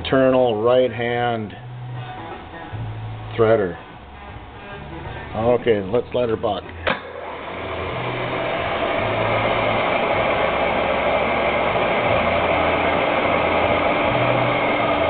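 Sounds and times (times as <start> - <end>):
lathe gearing whirring: 0.0 - 15.0.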